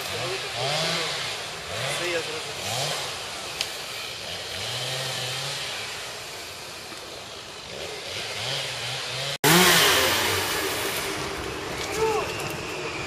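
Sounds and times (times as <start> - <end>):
small petrol engine revving: 0.0 - 13.0.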